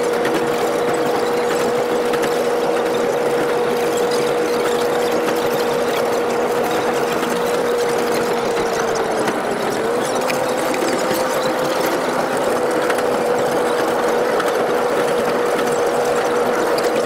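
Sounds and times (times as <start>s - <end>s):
rapid mechanical train chatter: 0.0s - 17.0s.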